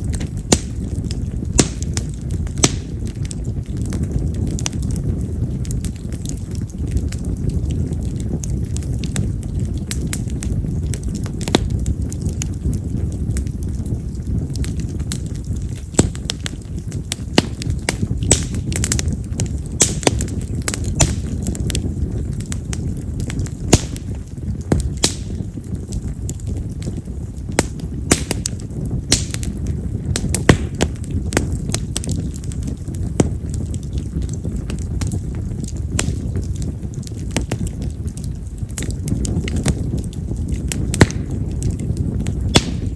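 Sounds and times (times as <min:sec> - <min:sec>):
fire flames rushing: 0:00.0 - 0:42.9
firewood crackling and popping: 0:00.0 - 0:42.9.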